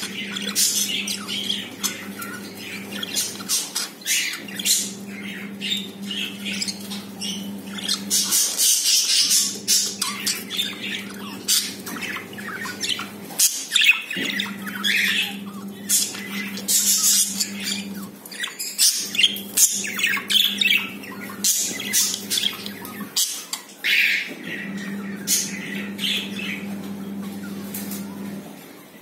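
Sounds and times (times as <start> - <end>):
budgerigars chirping and squawking: 0.0 - 28.4.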